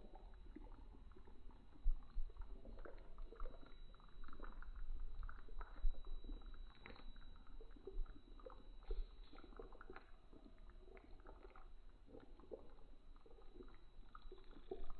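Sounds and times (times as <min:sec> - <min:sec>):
curry bubbles plopping: 0:00.0 - 0:14.9.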